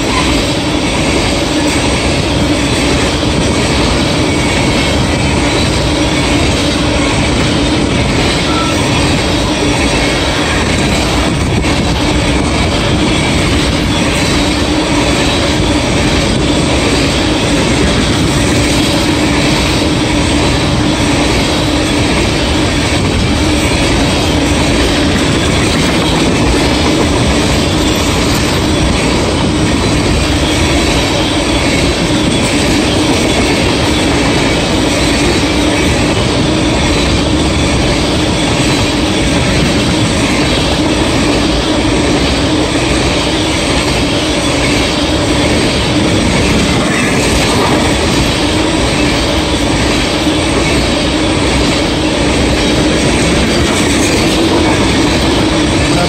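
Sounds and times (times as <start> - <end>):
steel train wheels on rails: 0.0 - 56.0.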